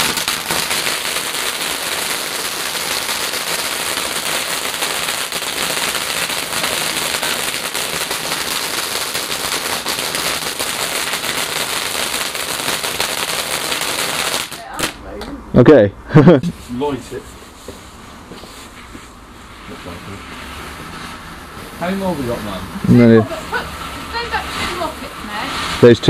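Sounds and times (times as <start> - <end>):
firework crackling and hissing: 0.0 - 15.1, 16.4 - 26.0.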